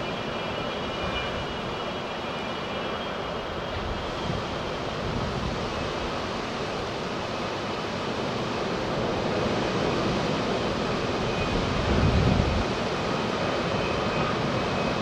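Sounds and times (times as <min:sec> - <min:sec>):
jet engine roar with high whine: 0:00.0 - 0:15.0.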